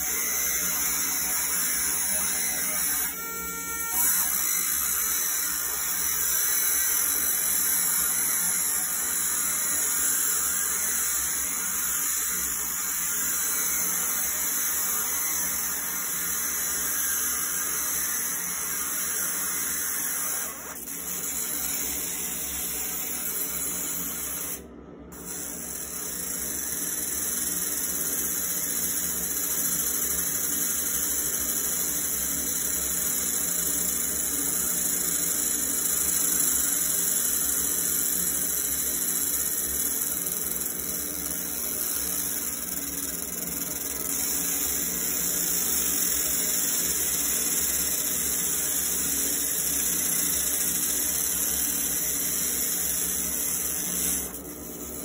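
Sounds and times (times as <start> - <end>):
laser engraving hiss: 0.0 - 24.6, 25.2 - 55.0.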